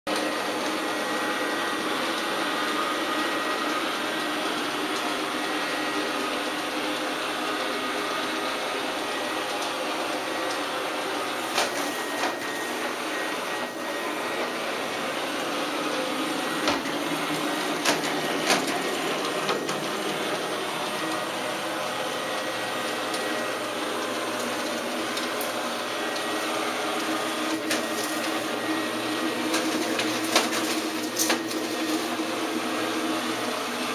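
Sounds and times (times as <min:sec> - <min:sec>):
robot vacuum cleaner whirring: 0:00.1 - 0:33.9.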